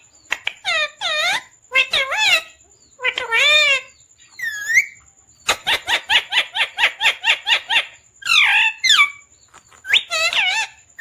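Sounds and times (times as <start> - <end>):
parrot calling: 0.0 - 11.0.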